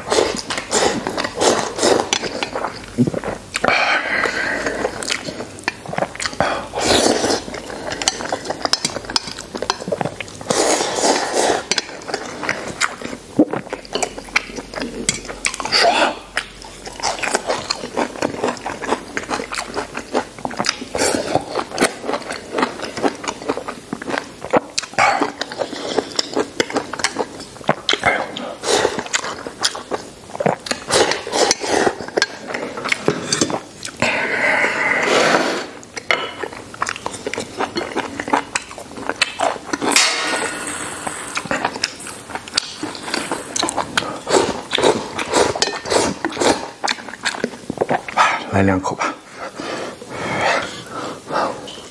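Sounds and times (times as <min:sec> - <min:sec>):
person chewing food: 0:00.0 - 0:48.5.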